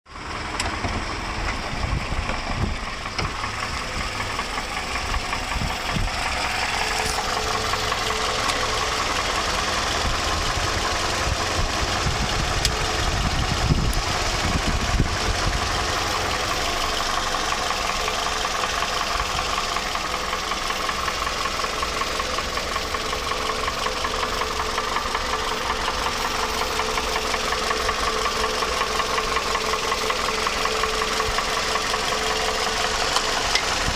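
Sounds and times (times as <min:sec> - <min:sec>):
car engine running: 0:00.1 - 0:33.9
fast even engine knocking: 0:00.7 - 0:33.9.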